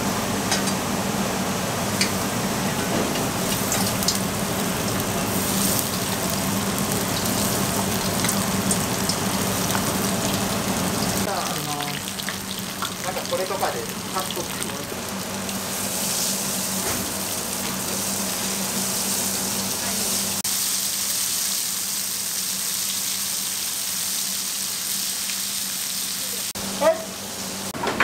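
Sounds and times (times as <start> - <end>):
vegetables frying in oil: 3.2 - 26.5.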